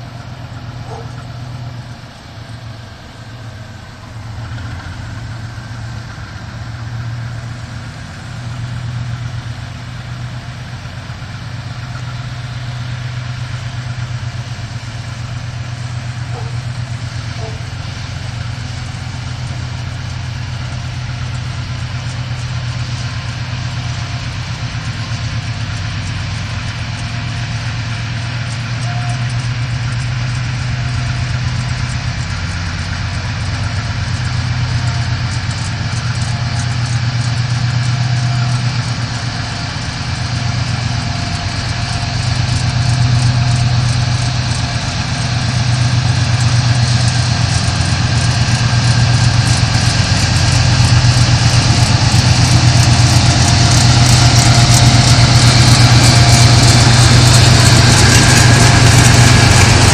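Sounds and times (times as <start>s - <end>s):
low locomotive engine drone: 0.0s - 59.9s.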